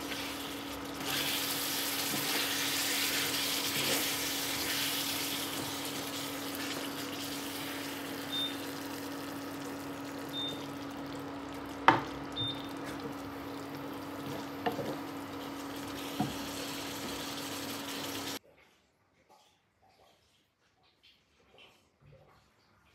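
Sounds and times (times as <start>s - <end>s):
food sizzling in a frying pan: 0.0s - 18.4s.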